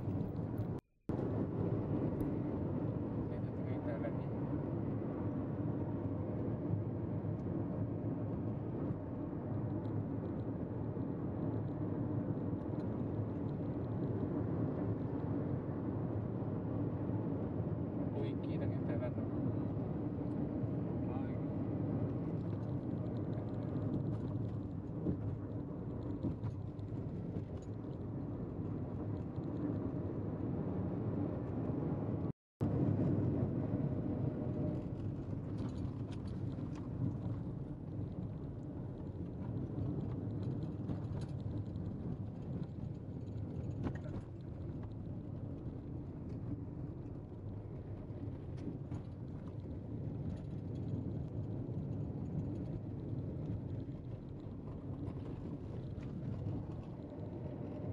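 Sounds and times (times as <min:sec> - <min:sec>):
car tyre and engine noise: 0:00.0 - 0:57.9.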